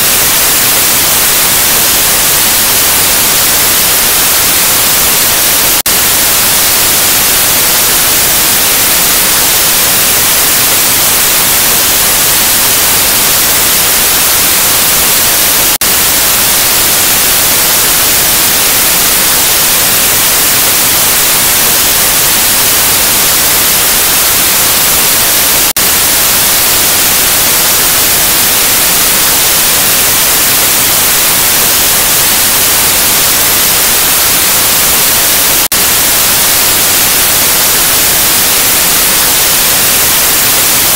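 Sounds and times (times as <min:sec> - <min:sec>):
television static hiss: 0:00.0 - 0:40.9.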